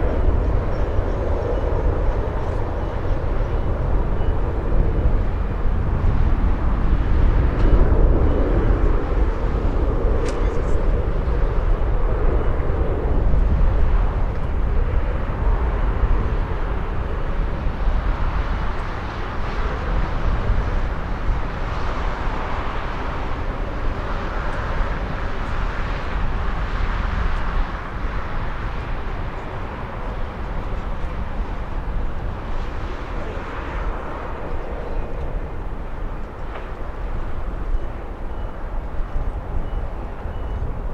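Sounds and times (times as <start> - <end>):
jet engines rumbling: 0.0 - 40.9.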